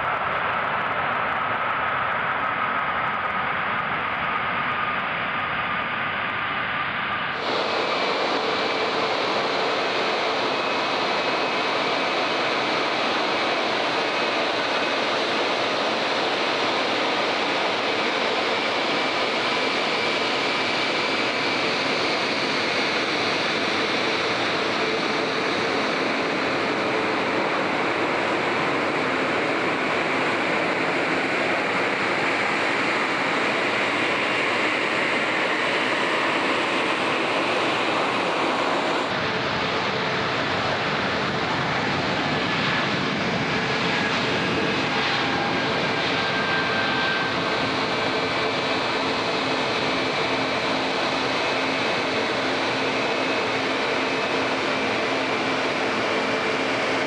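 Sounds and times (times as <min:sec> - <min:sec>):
jet engines rushing: 0:00.0 - 0:57.0.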